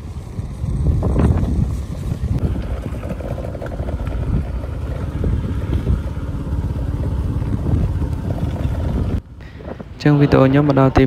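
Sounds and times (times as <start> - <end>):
motorbike running: 0.0 - 11.0
wind buffeting microphone: 0.0 - 11.0.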